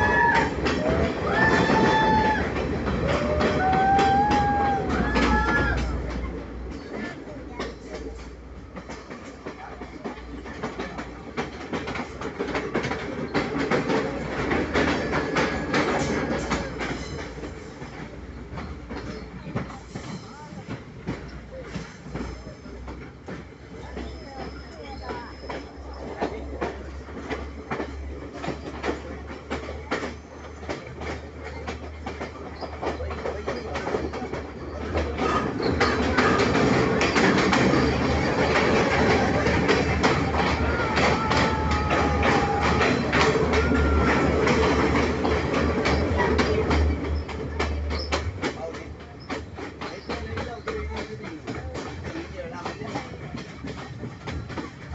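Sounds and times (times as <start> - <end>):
train wheels clacking on track: 0.0 - 54.9.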